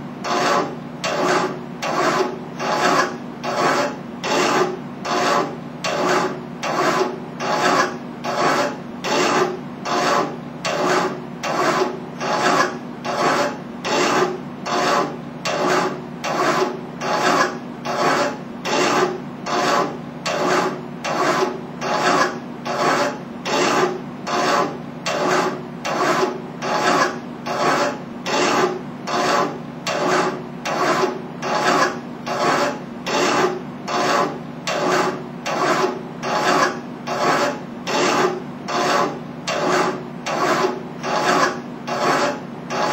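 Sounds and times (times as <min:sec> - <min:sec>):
file rasping on metal tube: 0:00.2 - 0:42.9.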